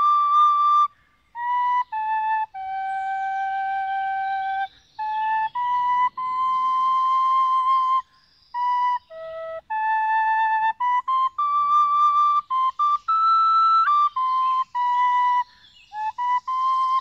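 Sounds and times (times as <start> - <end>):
slow flute-like melody: 0.0 - 17.0.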